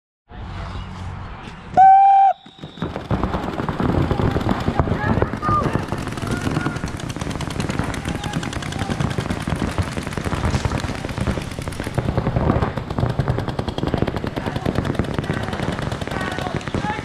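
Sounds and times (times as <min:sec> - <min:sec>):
paintball markers firing: 0:02.4 - 0:17.0.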